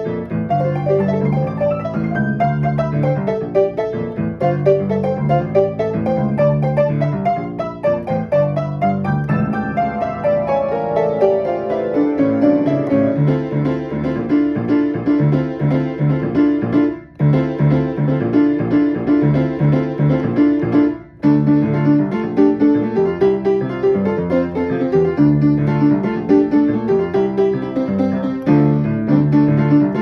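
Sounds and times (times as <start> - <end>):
fast piano piece: 0.0 - 30.0.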